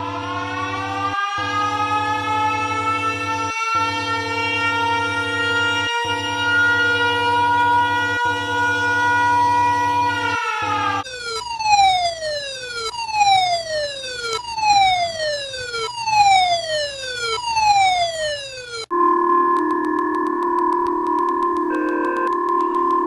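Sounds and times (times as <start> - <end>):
electronic emergency alert tone: 1.2 - 23.0.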